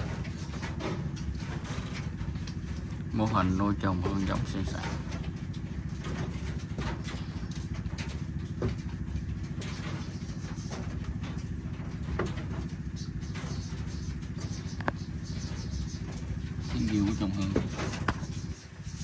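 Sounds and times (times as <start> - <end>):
engine running with even pulse: 0.0 - 19.0.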